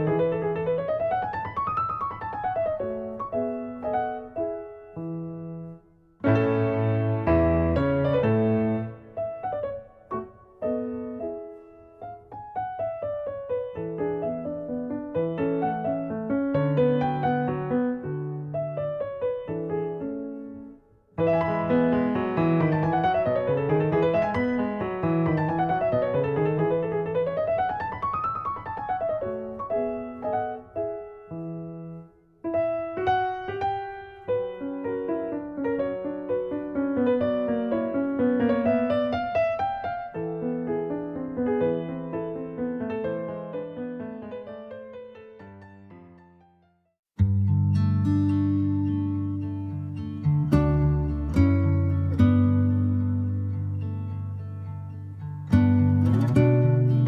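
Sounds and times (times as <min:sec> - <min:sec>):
piano music: 0:00.0 - 0:46.6, 0:47.2 - 0:57.0.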